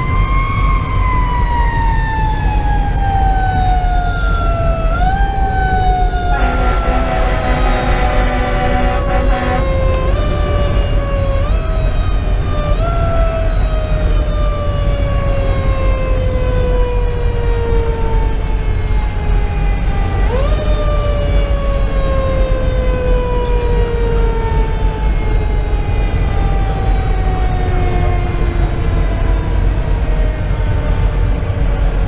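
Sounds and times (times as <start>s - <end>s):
diesel engine and road rumble: 0.0s - 32.0s
mechanical siren wailing: 0.0s - 32.0s.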